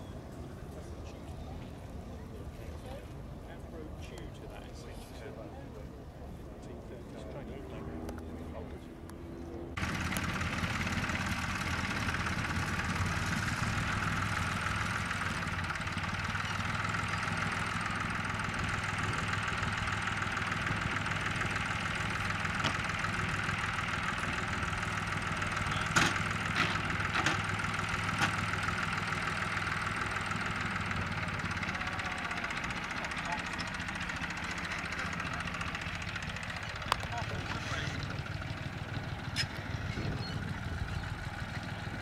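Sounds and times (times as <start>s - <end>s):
radial aircraft engine running: 0.0s - 42.0s.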